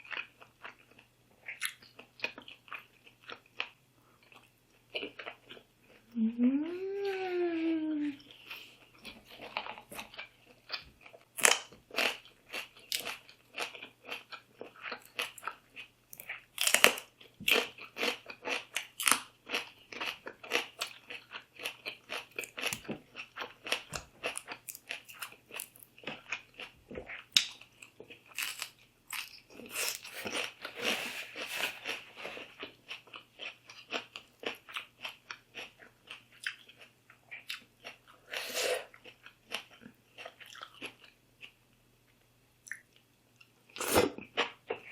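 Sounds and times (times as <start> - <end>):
person chewing food: 0.0 - 7.3, 8.2 - 41.6, 42.6 - 44.9.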